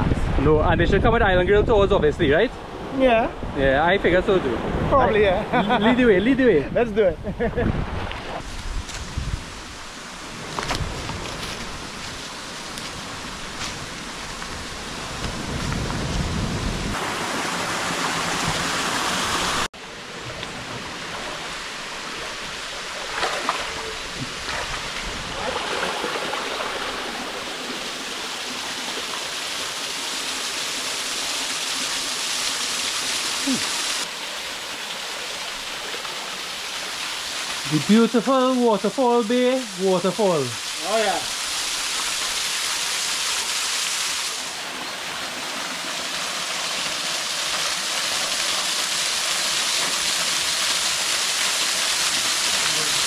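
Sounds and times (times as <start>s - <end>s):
running water rushing: 7.7s - 53.0s.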